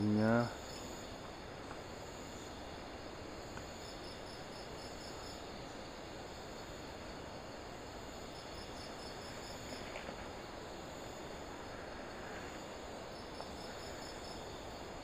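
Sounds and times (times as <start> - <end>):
rapid high cricket chirps: 0.0 - 15.0
steady high insect trill: 0.0 - 15.0
steady rushing hiss: 0.0 - 15.0.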